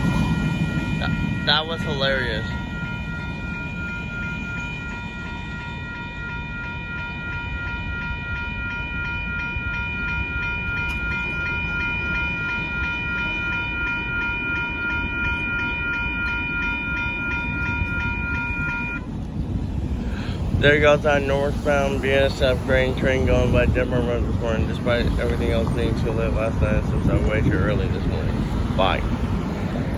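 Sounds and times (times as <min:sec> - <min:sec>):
crossing warning bell ringing: 0:00.0 - 0:29.9.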